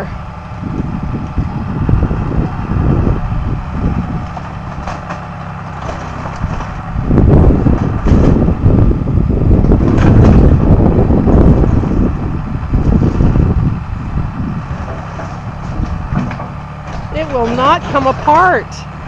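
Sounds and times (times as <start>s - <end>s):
heavy vehicle engine running: 0.0s - 19.0s.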